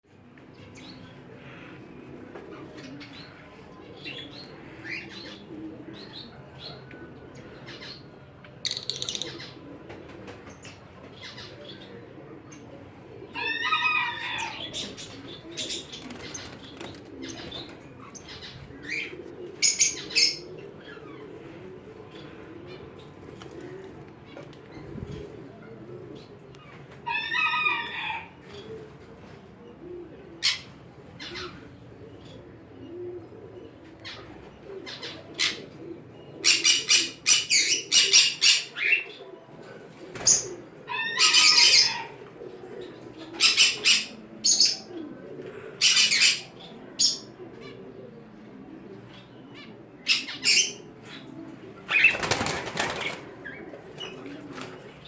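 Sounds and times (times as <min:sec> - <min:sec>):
birds cooing: 0:00.0 - 0:55.0
birds chirping: 0:00.2 - 0:28.9, 0:29.6 - 0:55.0.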